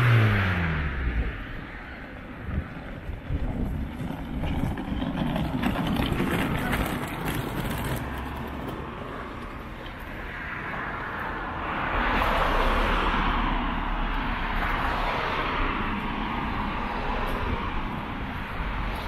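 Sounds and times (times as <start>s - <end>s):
vehicle passing close by: 0.0s - 19.0s.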